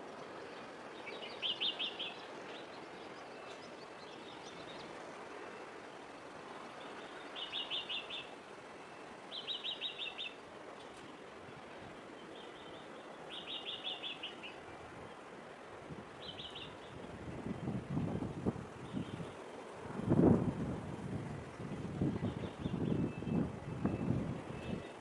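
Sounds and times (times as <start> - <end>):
background hiss: 0.0 - 25.0.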